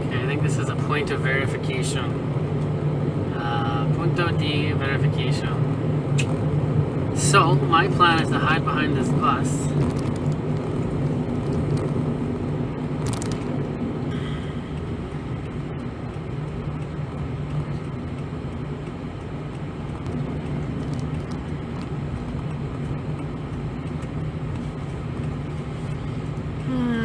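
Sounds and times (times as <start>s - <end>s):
tyre and road noise: 0.0s - 27.0s
van engine hum: 0.0s - 27.0s.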